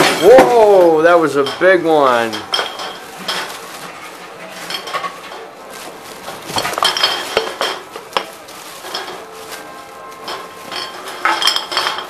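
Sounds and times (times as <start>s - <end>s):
glass bottles clinking: 0.0s - 12.0s.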